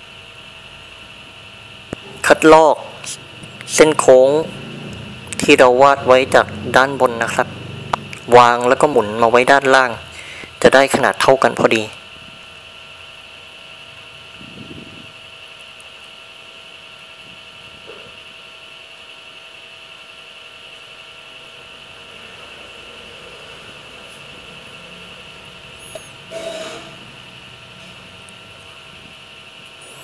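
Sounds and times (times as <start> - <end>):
high-pitched whine: 0.0 - 30.0.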